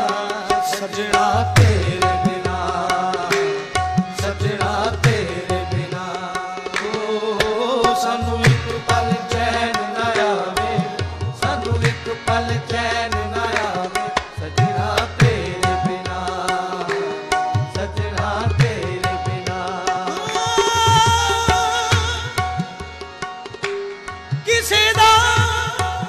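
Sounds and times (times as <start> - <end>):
man singing: 0.0 - 22.8, 24.4 - 26.0
harmoniums: 0.0 - 26.0.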